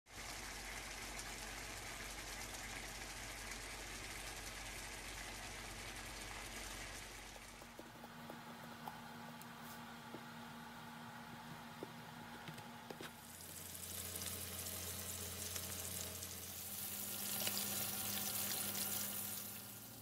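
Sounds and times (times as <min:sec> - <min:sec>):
curry simmering and bubbling: 0:00.1 - 0:09.6, 0:13.0 - 0:20.0.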